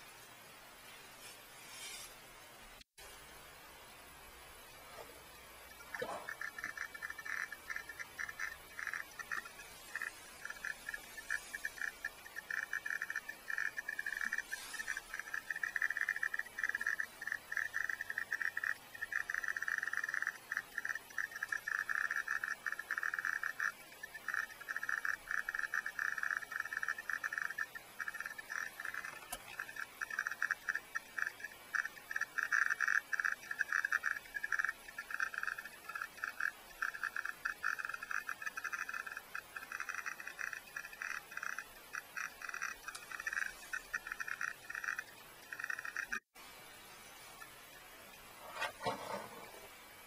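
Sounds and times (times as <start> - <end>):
geiger counter clicking: 5.6 - 46.3.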